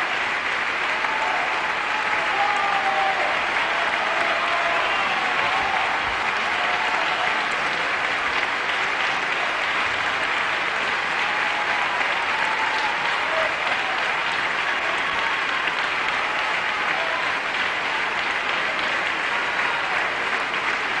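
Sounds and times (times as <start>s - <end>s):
concert audience applauding: 0.0s - 21.0s.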